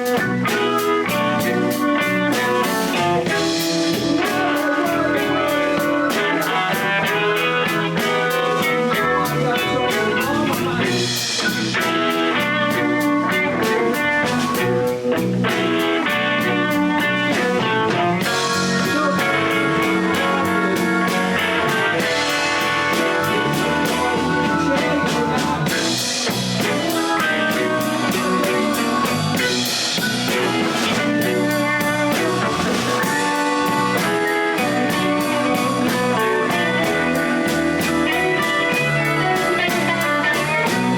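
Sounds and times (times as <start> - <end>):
blues band playing: 0.0 - 40.9
drum kit beat: 0.0 - 40.9
guitar lead: 0.0 - 40.9.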